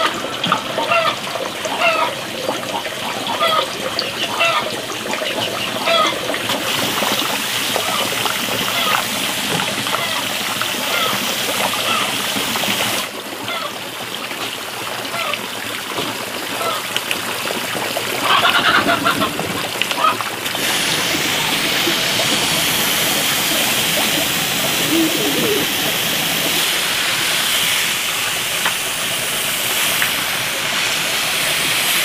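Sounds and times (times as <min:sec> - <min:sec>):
water splashing from a watering can: 0:00.0 - 0:32.0.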